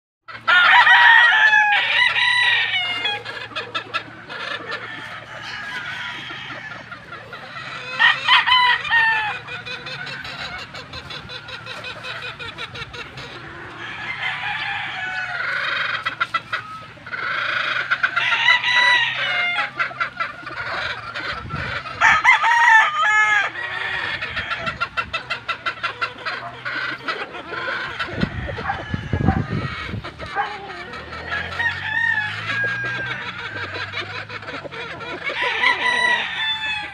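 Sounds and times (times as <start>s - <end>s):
hens clucking: 0.3s - 36.9s
roosters crowing: 0.3s - 36.9s.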